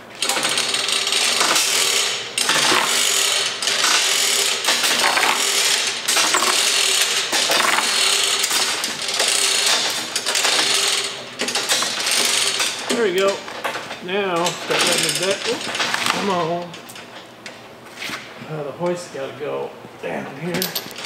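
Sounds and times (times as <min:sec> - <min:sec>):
chain hoist rattling and clicking: 0:00.2 - 0:17.2, 0:20.6 - 0:21.0.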